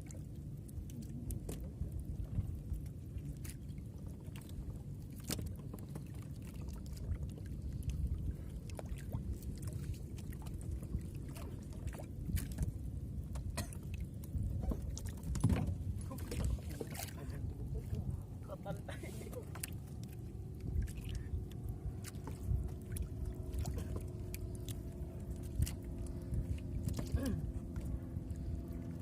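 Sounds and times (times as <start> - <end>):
steady low rumble: 0.0 - 29.0
water lapping against boat hull: 0.0 - 29.0.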